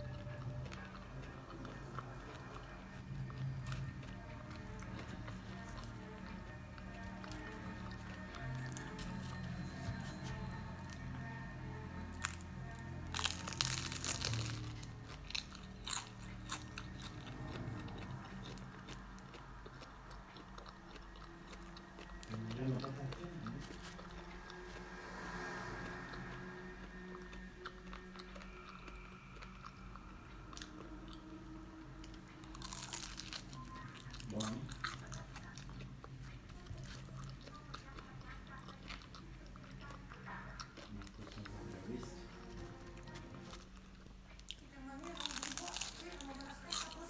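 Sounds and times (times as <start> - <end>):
crunchy chewing of fried food: 0.0 - 47.0
soft background music: 0.0 - 47.0.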